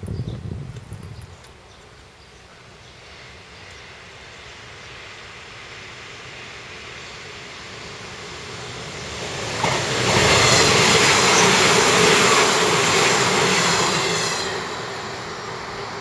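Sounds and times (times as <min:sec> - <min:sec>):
train wheels rushing on rails: 0:00.6 - 0:16.0.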